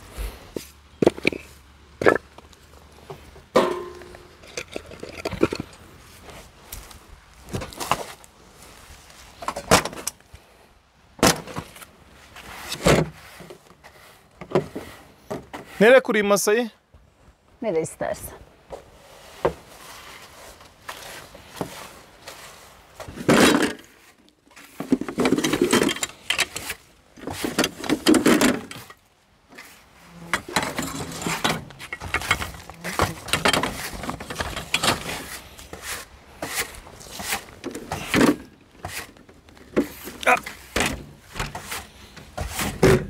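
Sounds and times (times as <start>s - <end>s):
handling noises: 0.0s - 10.5s, 11.2s - 16.0s, 18.6s - 43.0s.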